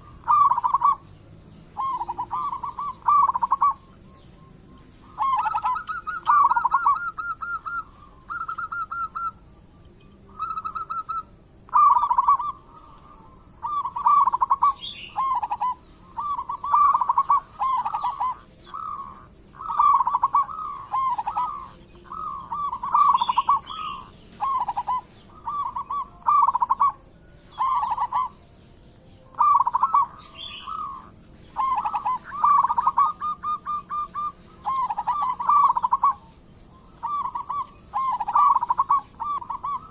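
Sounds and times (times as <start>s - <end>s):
dove cooing: 0.0s - 9.5s, 10.2s - 39.9s.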